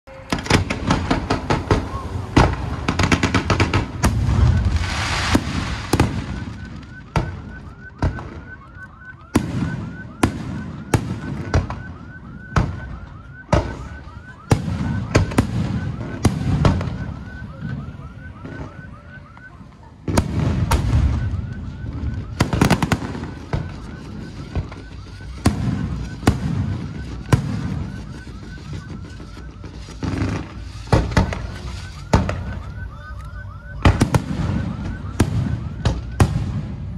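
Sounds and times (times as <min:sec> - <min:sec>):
firecrackers banging: 0:00.1 - 0:36.9.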